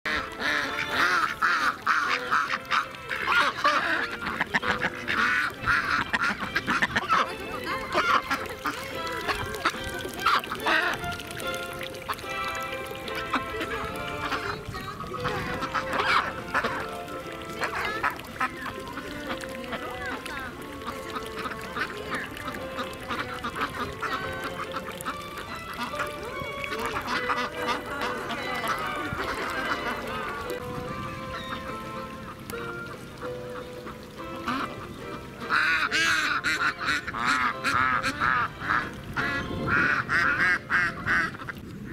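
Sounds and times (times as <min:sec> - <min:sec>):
ducks quacking: 0:00.1 - 0:41.9.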